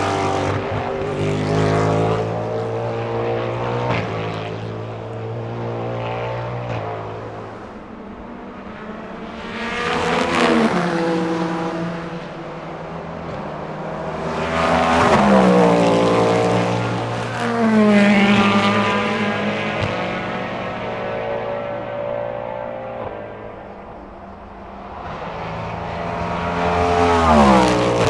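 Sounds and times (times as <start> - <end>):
race cars passing at speed: 0.0 - 28.0.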